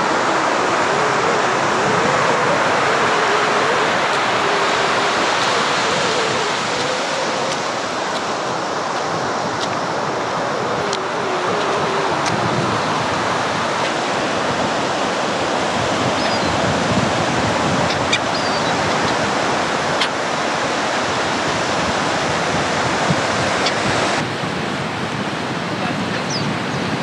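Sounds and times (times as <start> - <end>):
gulls crying: 0.0 - 24.2
surf breaking on beach: 0.0 - 27.0
wind buffeting microphone: 0.0 - 27.0.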